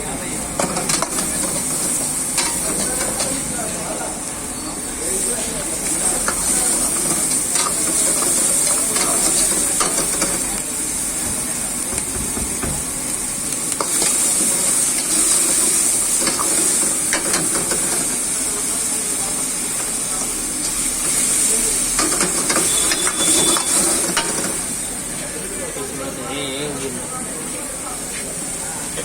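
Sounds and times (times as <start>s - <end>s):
food sizzling in a wok: 0.0s - 29.0s.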